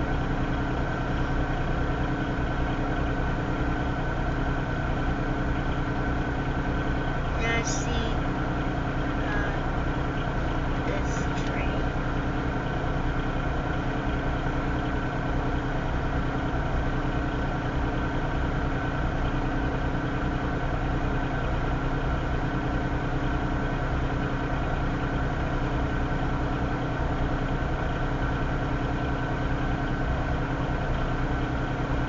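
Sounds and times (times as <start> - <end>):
locomotive engines idling: 0.0 - 32.0.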